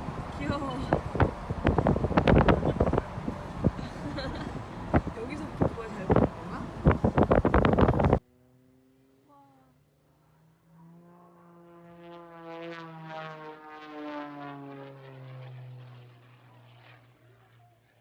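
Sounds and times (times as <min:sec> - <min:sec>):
propeller airplane flying past: 0:00.0 - 0:18.0.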